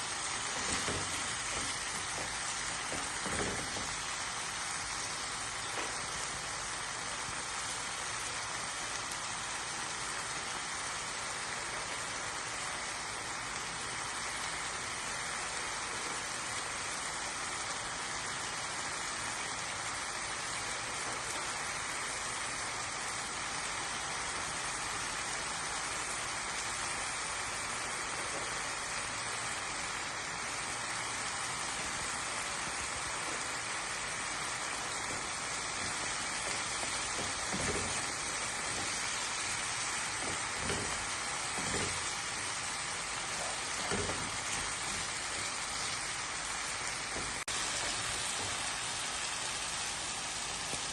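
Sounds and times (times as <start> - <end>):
food sizzling in frying pan: 0.0 - 50.9.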